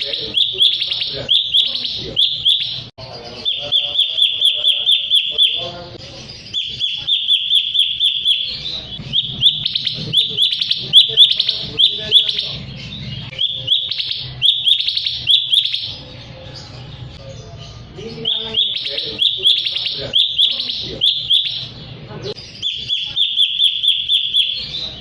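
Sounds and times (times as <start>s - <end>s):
bird chirping rapidly: 0.0s - 25.0s.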